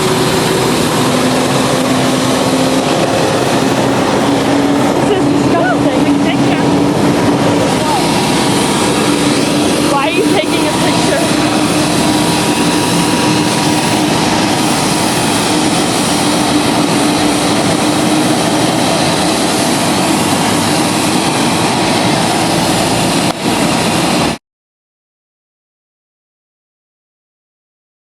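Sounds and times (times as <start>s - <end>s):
jet engine and air noise: 0.0s - 24.4s.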